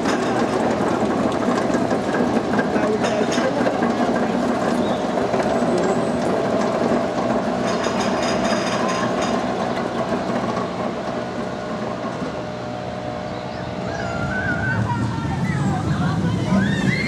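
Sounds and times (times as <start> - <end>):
roller coaster wheels rumbling: 0.0 - 17.0.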